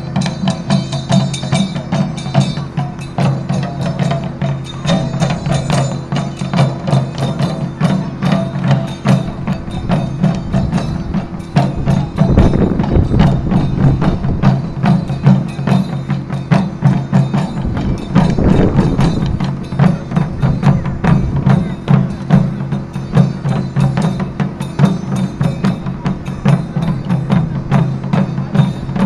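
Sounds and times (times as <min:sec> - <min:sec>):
deep heavy drum strokes: 0:00.0 - 0:29.0
taiko drum ensemble: 0:00.0 - 0:29.0.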